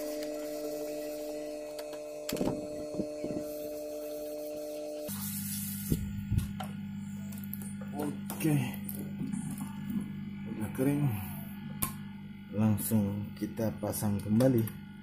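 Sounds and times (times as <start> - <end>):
hot-air blower whirring hum: 0.0 - 15.0.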